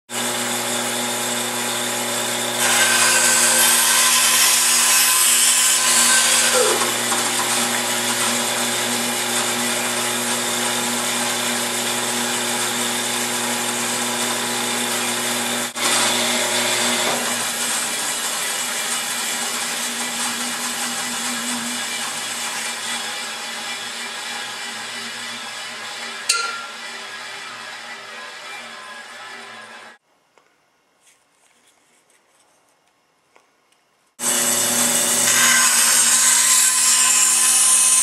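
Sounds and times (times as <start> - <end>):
band saw humming: 0.1 - 30.0, 34.2 - 38.0
saw blade cutting wood: 0.2 - 30.0, 34.2 - 38.0.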